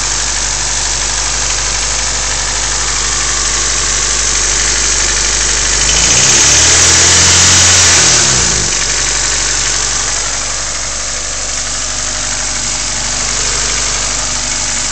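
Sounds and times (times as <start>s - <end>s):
car engine idling and revving: 0.0s - 14.9s
engine knocking or ticking: 0.0s - 14.9s.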